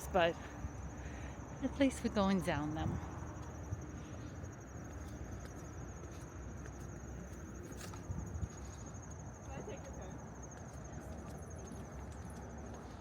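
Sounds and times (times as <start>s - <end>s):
insects trilling: 0.0s - 13.0s
low outdoor hum: 0.0s - 13.0s.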